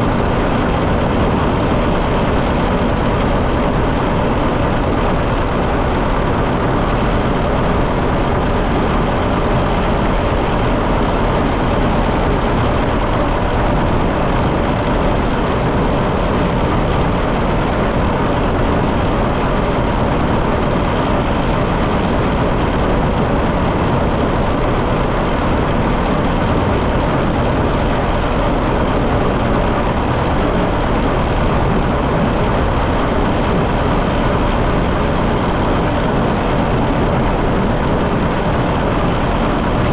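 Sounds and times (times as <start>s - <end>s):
tractor engine running: 0.0s - 38.7s.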